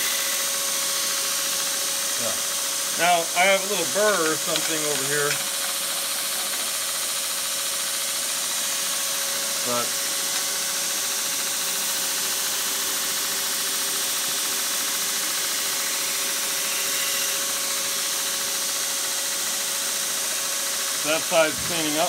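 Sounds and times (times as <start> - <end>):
belt grinder grinding steel: 0.0 - 7.2, 9.6 - 19.6, 21.0 - 22.0.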